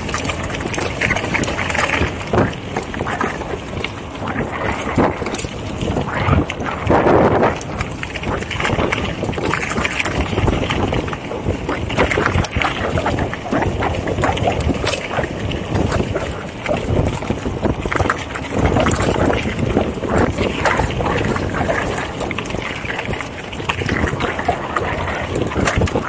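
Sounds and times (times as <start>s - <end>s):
bike rattling: 0.0s - 26.0s
tyres rolling over dirt and rocks: 0.0s - 26.0s
wind rushing over microphone: 0.0s - 26.0s.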